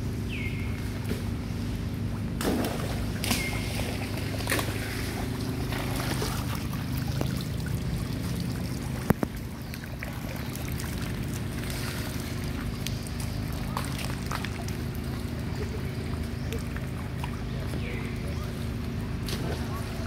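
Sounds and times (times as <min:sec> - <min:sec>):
low mechanical hum: 0:00.0 - 0:20.0
monkeys splashing in water: 0:02.0 - 0:20.0.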